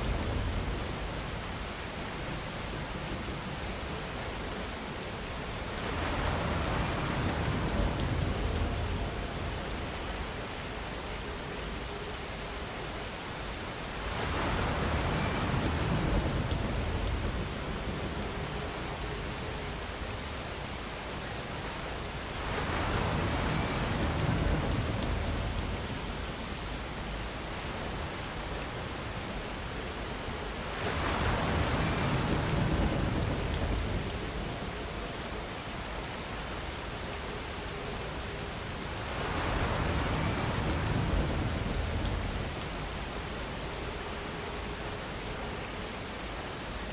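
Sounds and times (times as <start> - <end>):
rain hiss: 0.0 - 46.9.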